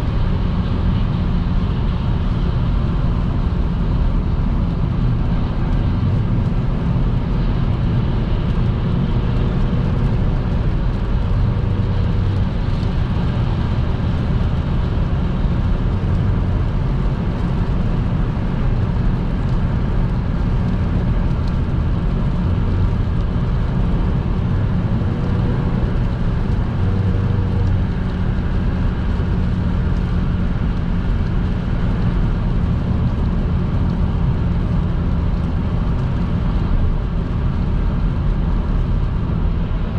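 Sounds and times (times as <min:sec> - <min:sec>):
car engine: 0:00.0 - 0:39.9
tyre and road noise: 0:00.0 - 0:39.9.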